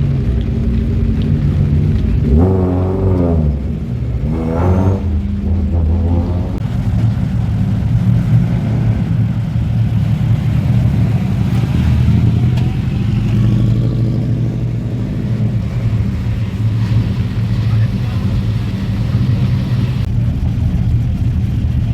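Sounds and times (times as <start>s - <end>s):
rally car engine drone: 0.0s - 21.9s.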